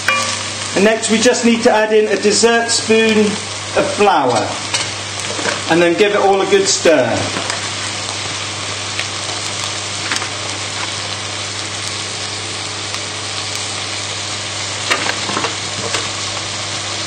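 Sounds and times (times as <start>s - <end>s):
meat and vegetables sizzling: 0.0s - 17.0s.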